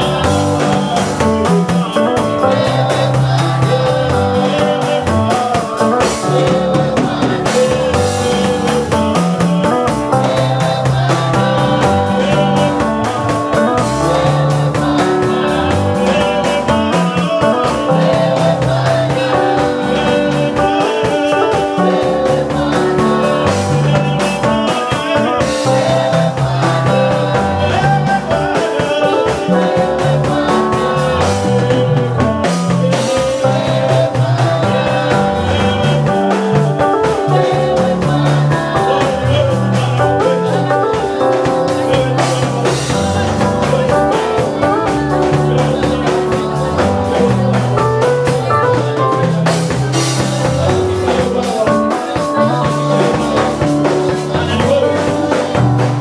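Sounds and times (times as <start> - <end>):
drum kit beat: 0.0 - 56.0
guitar: 0.0 - 56.0
women singing praise song: 0.0 - 56.0.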